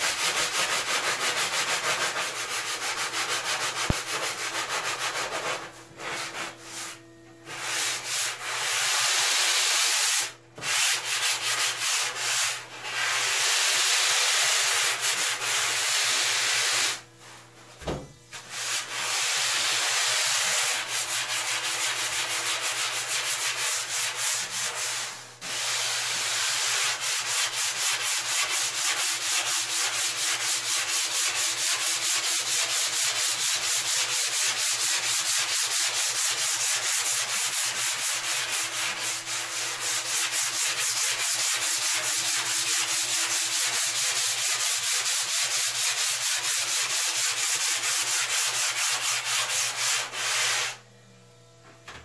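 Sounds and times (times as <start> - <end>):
sanding block rasping on foam: 0.0 - 17.0, 18.4 - 50.8.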